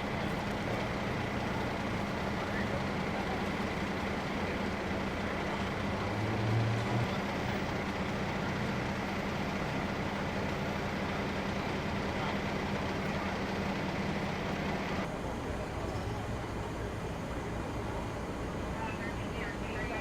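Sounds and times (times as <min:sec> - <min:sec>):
large vehicle engine idling: 0:00.0 - 0:20.0.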